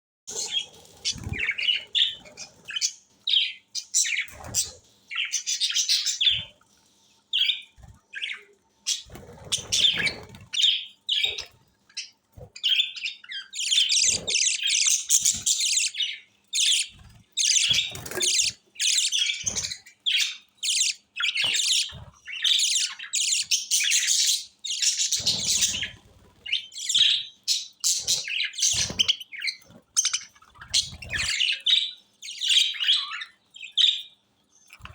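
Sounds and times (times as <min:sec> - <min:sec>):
parrots chirping and squawking: 0:00.3 - 0:06.6, 0:07.3 - 0:34.9.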